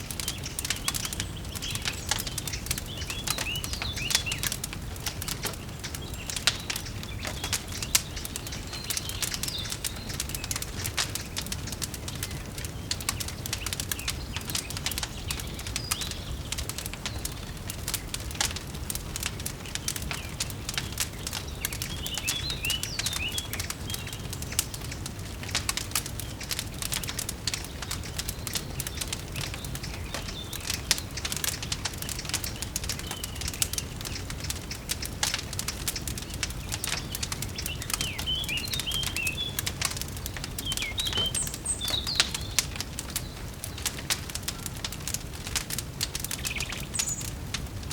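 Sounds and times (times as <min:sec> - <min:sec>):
birds chirping: 0:00.0 - 0:47.9
wood fire crackling and popping: 0:00.0 - 0:47.9.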